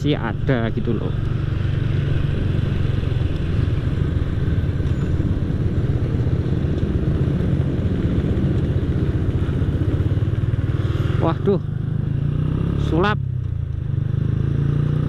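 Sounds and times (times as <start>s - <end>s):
motorcycle engine deep exhaust: 0.3s - 15.0s.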